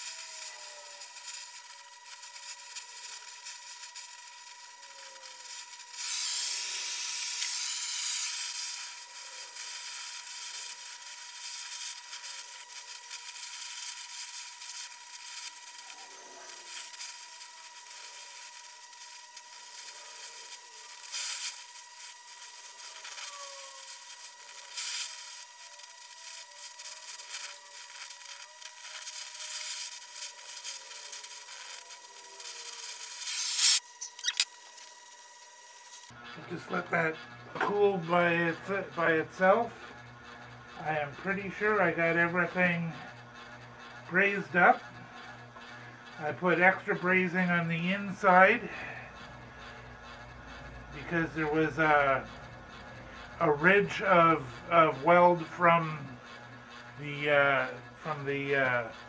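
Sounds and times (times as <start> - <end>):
welding torch flame hissing: 0.0 - 59.0.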